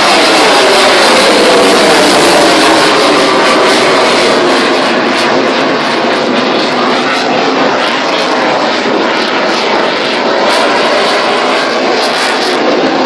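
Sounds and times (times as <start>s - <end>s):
aircraft engine rush: 0.0s - 13.0s.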